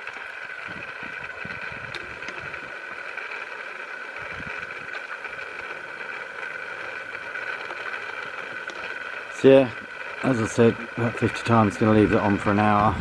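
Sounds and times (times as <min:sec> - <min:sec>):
small motor whining: 0:00.0 - 0:13.0.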